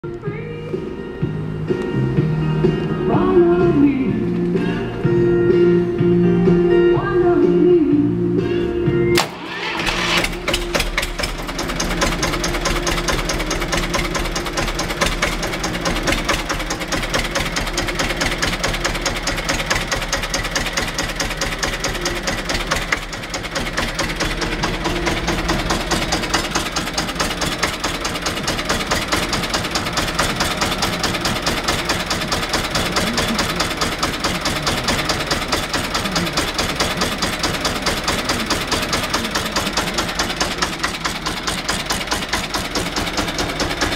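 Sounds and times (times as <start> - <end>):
diesel tractor engine idling: 0.0 - 6.8, 8.7 - 43.9.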